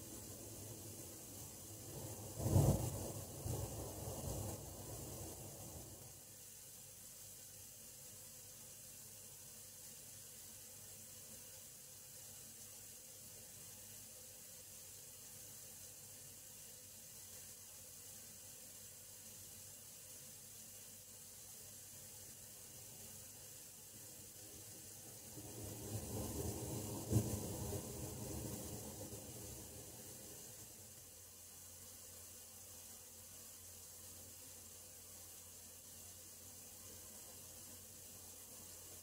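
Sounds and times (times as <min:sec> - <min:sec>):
water hissing through pipes: 0:00.0 - 0:39.0.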